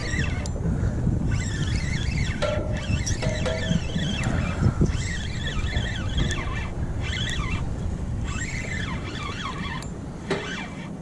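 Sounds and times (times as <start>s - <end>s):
wind rumbling on microphone: 0.0s - 11.0s
high wavering chirps: 1.3s - 10.8s.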